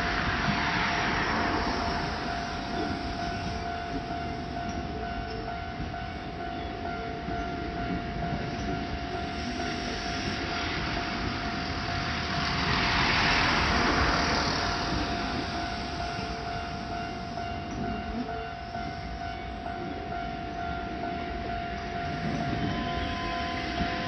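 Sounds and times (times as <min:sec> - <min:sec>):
level-crossing warning bell ringing: 0:00.0 - 0:24.0
train passing rumble: 0:00.0 - 0:24.0.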